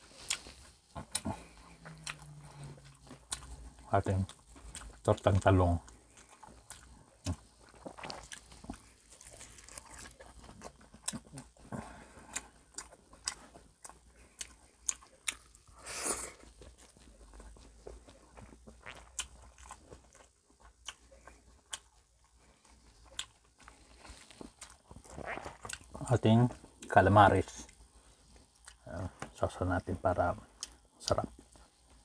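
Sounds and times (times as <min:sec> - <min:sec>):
person chewing food: 0:00.0 - 0:29.4, 0:30.5 - 0:32.0.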